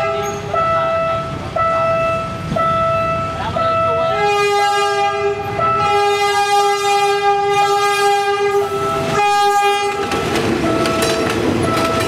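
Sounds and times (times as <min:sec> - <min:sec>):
diesel locomotive horn blast: 0:00.0 - 0:11.9.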